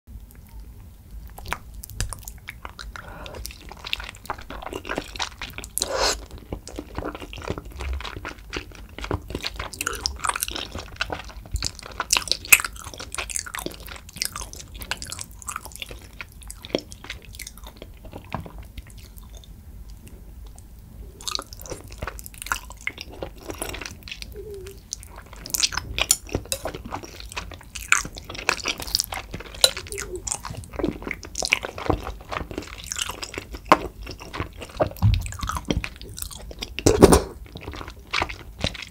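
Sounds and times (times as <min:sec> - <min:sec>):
person chewing food: 0:00.2 - 0:38.9.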